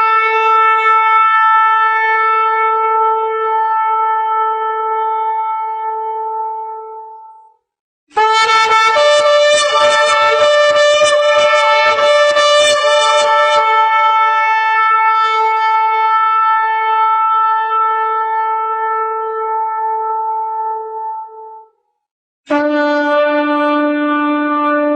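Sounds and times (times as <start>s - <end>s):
shofar long blast: 0.0s - 7.2s, 8.2s - 21.7s, 22.5s - 24.9s.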